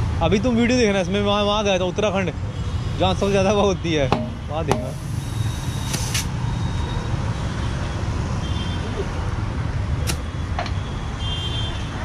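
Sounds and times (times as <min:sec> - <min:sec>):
motor vehicles rumbling: 0:00.0 - 0:12.0.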